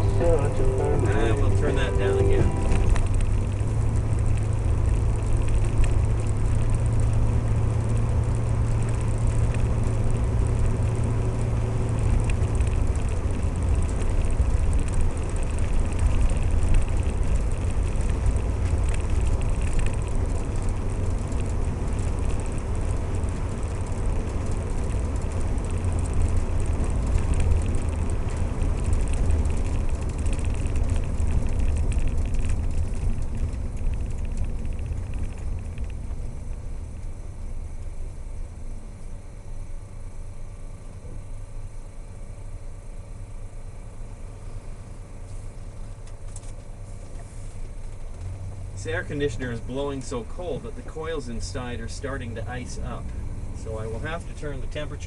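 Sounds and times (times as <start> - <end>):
car engine drone: 0.0 - 55.0
road noise: 0.0 - 55.0.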